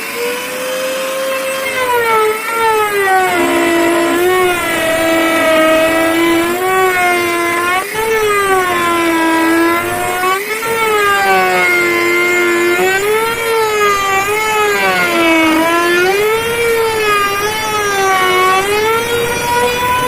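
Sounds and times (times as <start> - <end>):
router spindle whining: 1.4 - 20.0.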